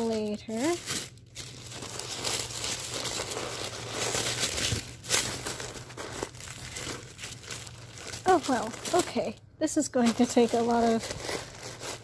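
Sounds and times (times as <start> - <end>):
paper crinkling and rustling: 0.0 - 9.4, 10.0 - 12.0.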